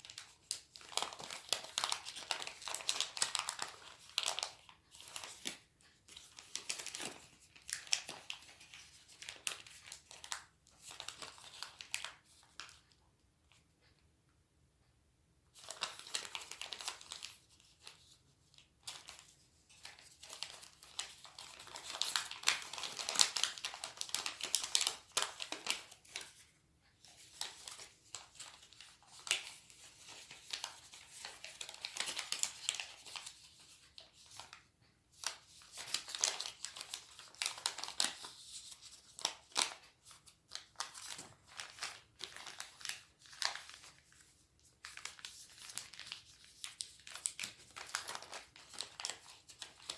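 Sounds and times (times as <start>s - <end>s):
paper rustling and crinkling: 0.0s - 12.9s, 15.6s - 49.9s.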